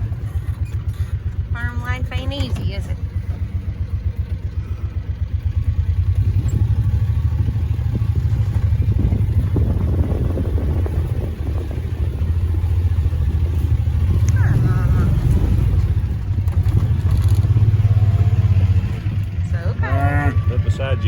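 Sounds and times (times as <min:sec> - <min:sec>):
small vehicle engine running: 0:00.0 - 0:21.0.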